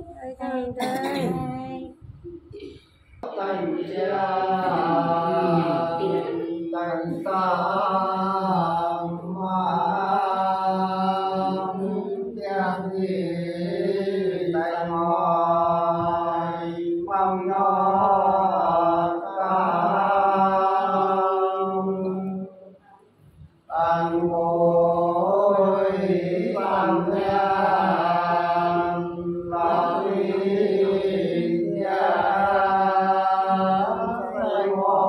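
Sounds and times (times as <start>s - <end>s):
men singing unaccompanied: 3.2s - 22.5s, 23.7s - 35.0s.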